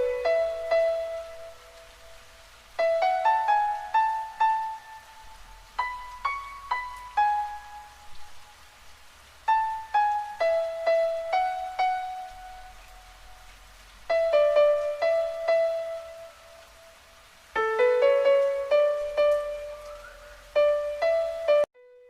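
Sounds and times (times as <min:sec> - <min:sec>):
slow piano notes: 0:00.0 - 0:22.0.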